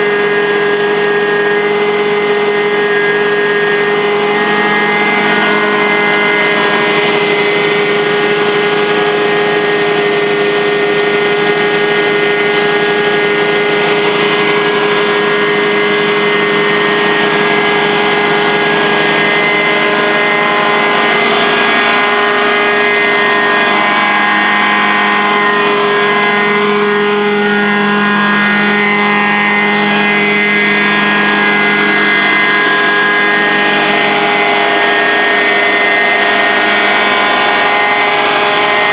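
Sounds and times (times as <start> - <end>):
carpet cleaning extractor humming: 0.0 - 38.9.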